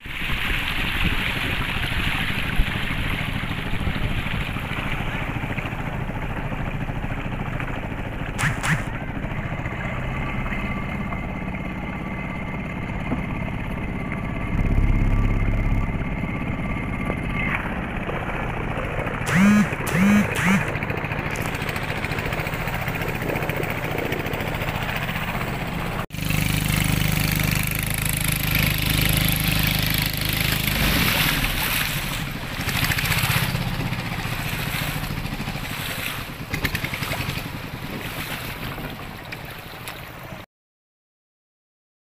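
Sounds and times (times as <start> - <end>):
engine running: 0.1 - 40.4.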